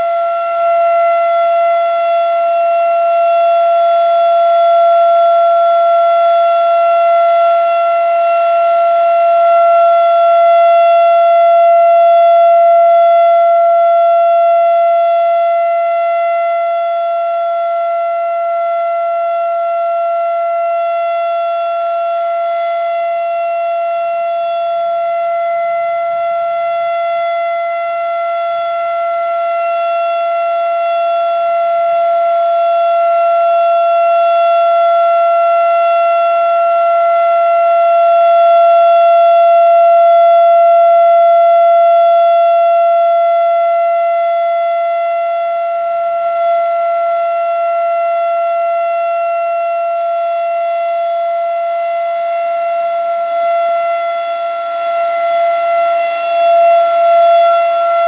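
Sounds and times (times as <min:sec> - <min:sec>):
steady warning siren tone: 0:00.0 - 0:58.0.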